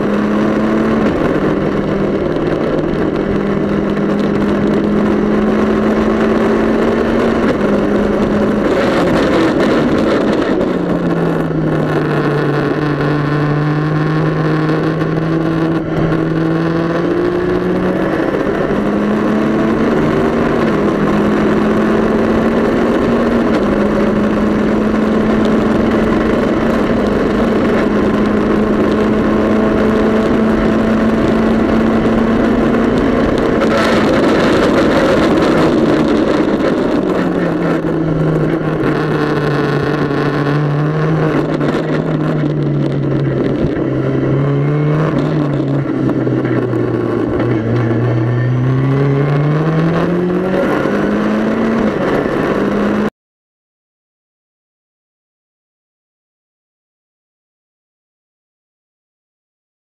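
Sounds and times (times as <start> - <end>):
race car engine: 0.0 - 53.1.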